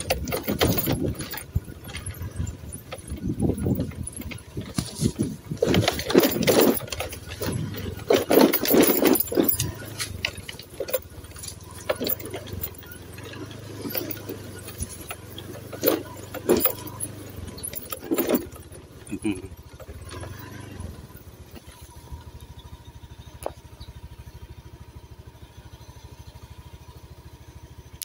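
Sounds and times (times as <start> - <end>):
knocks and rattles from bumps: 0.0 - 24.4
low car engine hum: 0.0 - 28.0.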